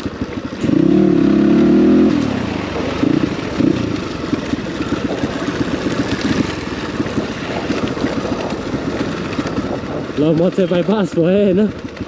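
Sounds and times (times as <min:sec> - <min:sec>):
dirt bike engine running: 0:00.0 - 0:12.0
wind on microphone: 0:00.7 - 0:11.0.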